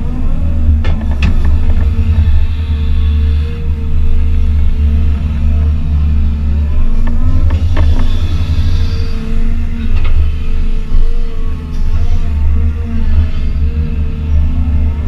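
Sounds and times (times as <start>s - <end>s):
excavator diesel engine under load: 0.0s - 15.0s
hydraulic whine: 0.0s - 15.0s.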